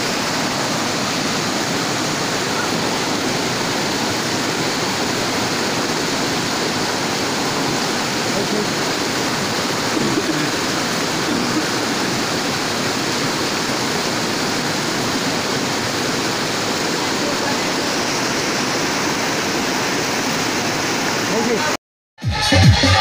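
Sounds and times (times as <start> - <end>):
stream rushing over rocks: 0.0 - 21.8.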